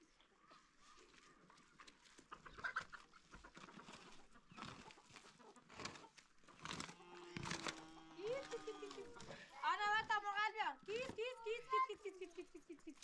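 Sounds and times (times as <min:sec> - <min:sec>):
chickens clucking: 0:00.0 - 0:13.0
rustling: 0:00.6 - 0:13.0.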